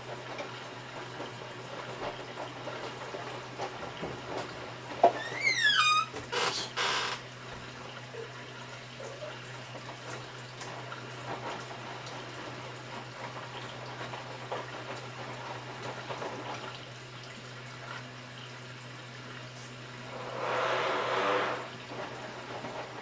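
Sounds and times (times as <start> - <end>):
washing machine low hum: 0.0 - 23.0.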